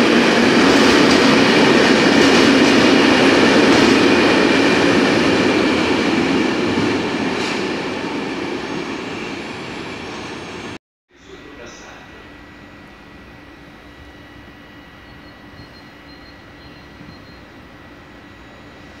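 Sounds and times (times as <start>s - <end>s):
train rumble and rail noise: 0.0s - 19.0s.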